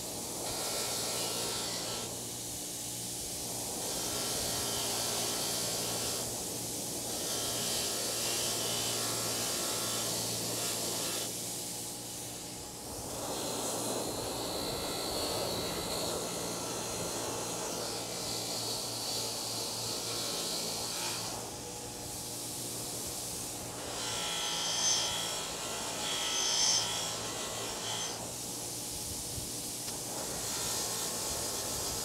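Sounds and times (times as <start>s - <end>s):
bench grinder humming: 0.0s - 28.8s, 29.7s - 32.0s.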